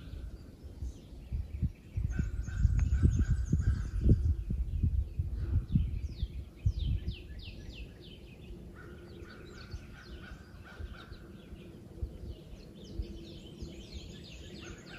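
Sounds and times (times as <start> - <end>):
songbirds chirping: 0.0 - 14.9
wind buffeting microphone: 0.0 - 14.9.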